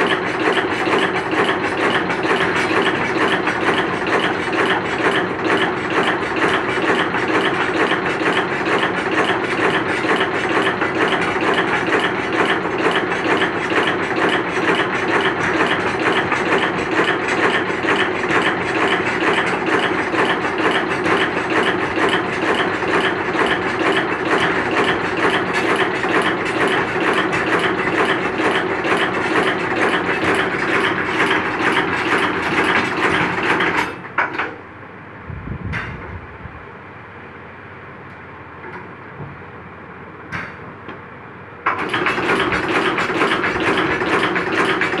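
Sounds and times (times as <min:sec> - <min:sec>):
machine clattering: 0:00.0 - 0:34.6, 0:41.7 - 0:45.0.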